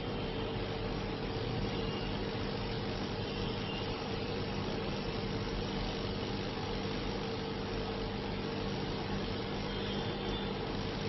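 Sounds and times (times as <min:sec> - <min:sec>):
electrical equipment humming: 0:00.0 - 0:11.0.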